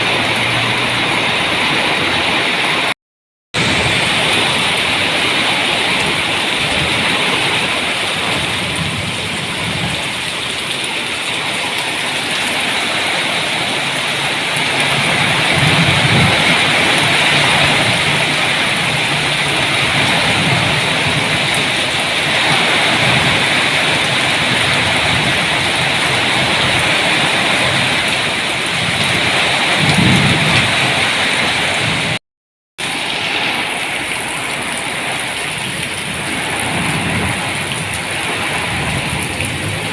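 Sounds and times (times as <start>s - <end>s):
heavy rain pouring: 0.0s - 32.2s, 32.8s - 39.9s
thunder rumbling: 3.6s - 32.2s, 32.8s - 39.9s.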